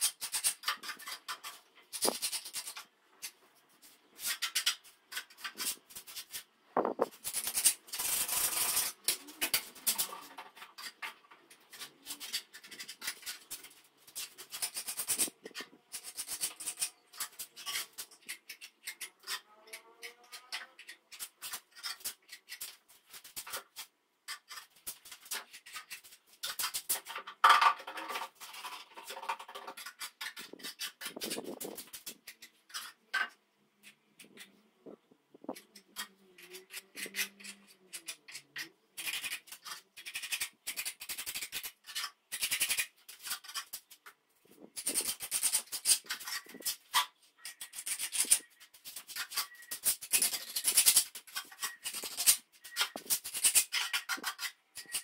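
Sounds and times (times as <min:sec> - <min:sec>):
scraping on a plaster wall: 0:00.0 - 0:55.0.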